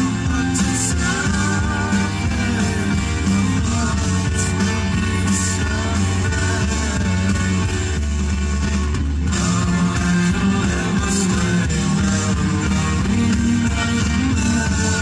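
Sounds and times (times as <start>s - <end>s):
person singing: 0.0s - 8.0s, 9.2s - 15.0s
hard rock music: 0.0s - 15.0s.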